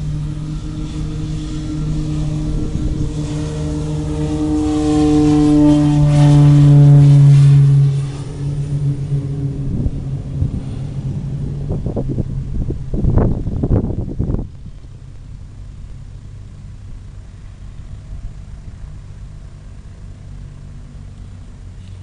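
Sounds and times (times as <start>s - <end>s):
airplane engine drone: 0.0s - 22.0s.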